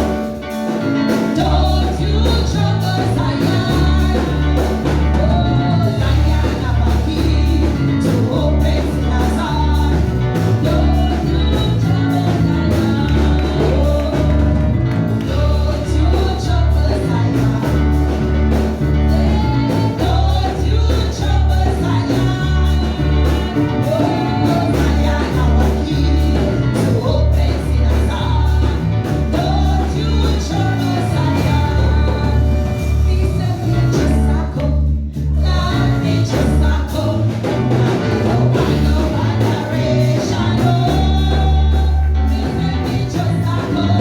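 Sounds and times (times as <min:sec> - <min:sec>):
gospel band and singing: 0:00.0 - 0:44.0
pulsing bass beat: 0:01.4 - 0:44.0.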